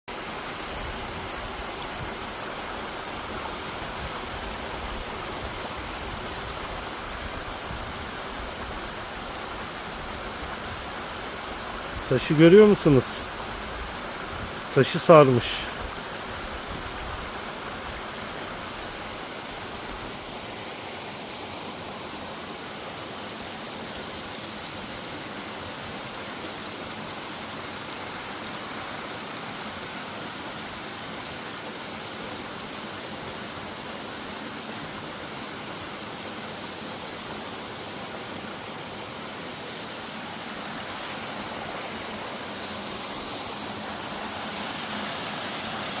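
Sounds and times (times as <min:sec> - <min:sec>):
stream water rushing: 0:00.1 - 0:46.0.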